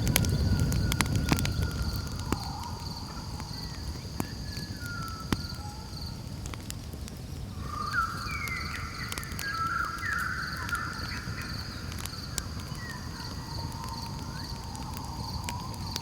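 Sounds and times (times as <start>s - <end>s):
campfire crackling and popping: 0.0s - 16.0s
insects trilling: 0.0s - 16.0s
thin whistled animal calls: 0.2s - 6.2s, 7.6s - 16.0s.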